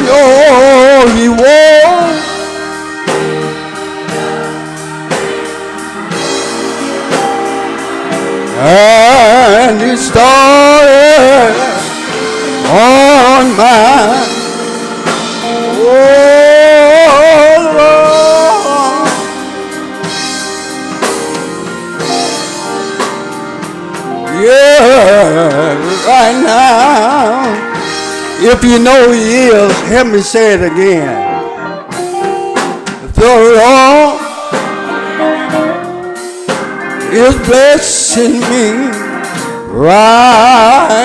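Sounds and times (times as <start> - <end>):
person singing: 0.0 - 19.6, 24.0 - 41.0
drum kit hits: 0.0 - 30.6, 31.9 - 41.0
gospel band playing: 0.0 - 41.0
keyboard chords: 0.0 - 41.0.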